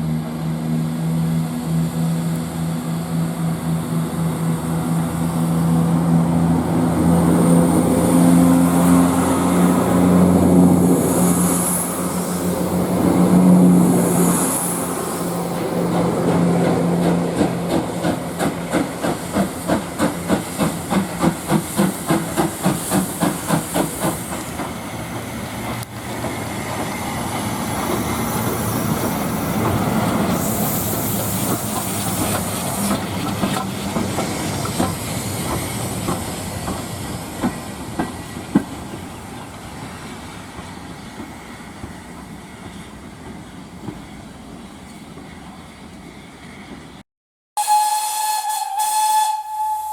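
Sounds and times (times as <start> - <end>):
steam locomotive drone and hiss: 0.0 - 47.0, 47.6 - 49.9
steam locomotive exhaust chuffs: 1.1 - 42.8.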